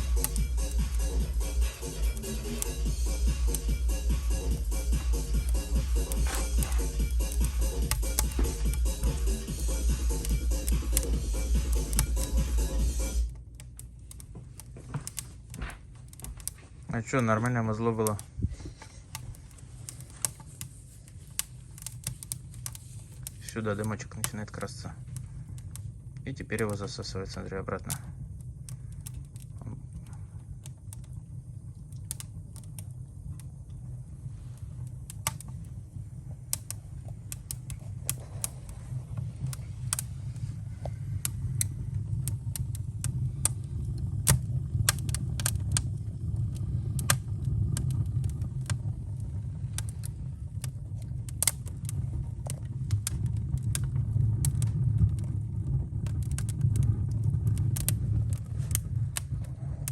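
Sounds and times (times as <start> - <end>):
low rumble of flame: 0.0 - 59.9
wood fire crackling and popping: 0.0 - 59.9.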